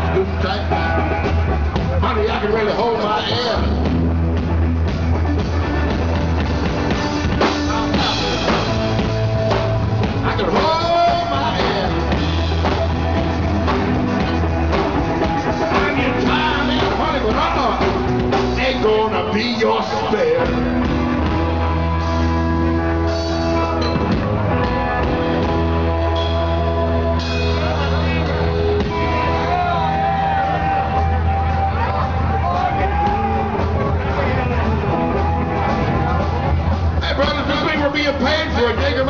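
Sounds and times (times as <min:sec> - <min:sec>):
drum kit: 0:00.0 - 0:39.0
electric guitar: 0:00.0 - 0:39.0
steady bass line: 0:00.0 - 0:39.0.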